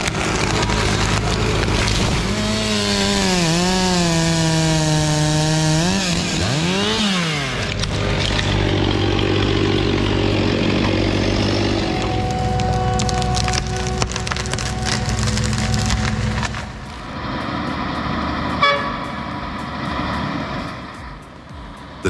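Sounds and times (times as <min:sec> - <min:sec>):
chainsaw running and cutting: 0:00.0 - 0:18.6.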